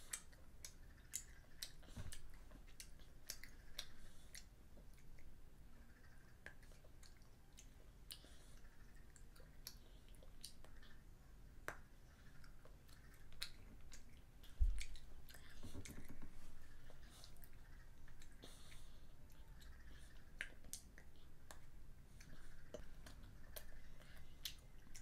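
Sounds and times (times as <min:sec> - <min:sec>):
child chewing chocolate: 0:00.0 - 0:25.0.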